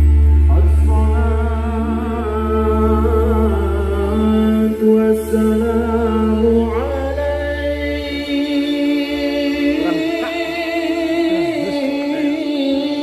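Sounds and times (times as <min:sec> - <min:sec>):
deep bass: 0:00.0 - 0:13.0
person singing: 0:00.0 - 0:13.0.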